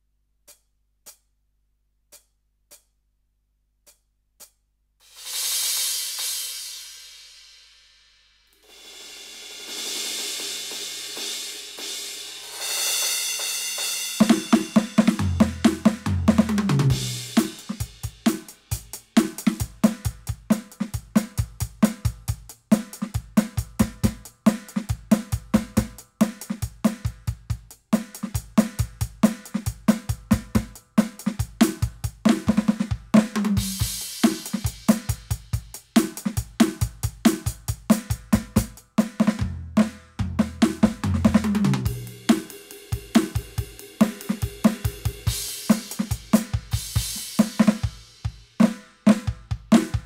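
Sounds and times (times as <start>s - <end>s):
electronic drum kit groove: 2.1s - 3.0s, 8.6s - 50.0s
tom fill: 8.6s - 50.0s.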